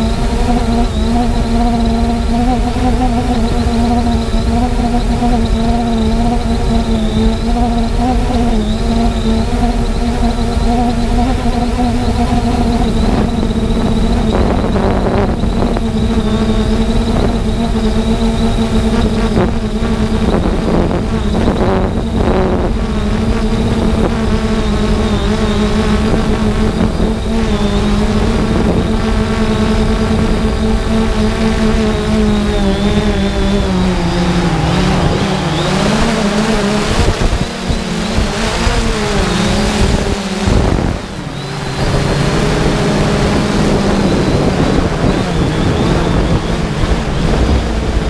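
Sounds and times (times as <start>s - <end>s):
drone propellers humming: 0.0s - 48.0s
wind rumble on microphone: 0.0s - 48.0s.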